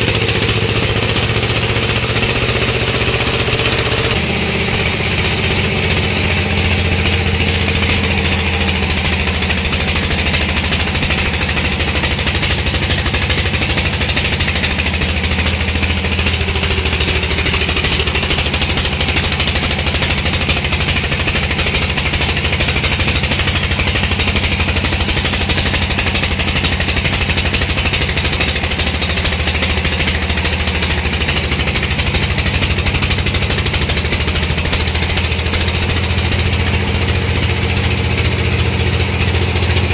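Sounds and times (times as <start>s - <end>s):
machinery engine humming and pulsing: 0.0s - 39.9s.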